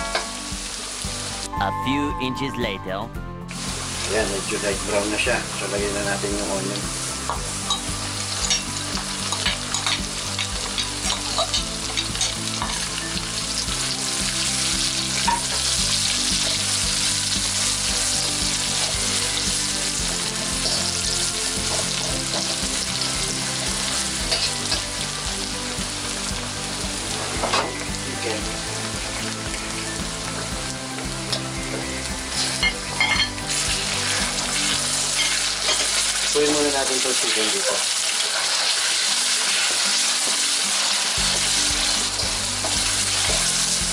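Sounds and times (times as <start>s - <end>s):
onion sizzling in hot oil: 0.0s - 1.5s, 3.5s - 43.9s.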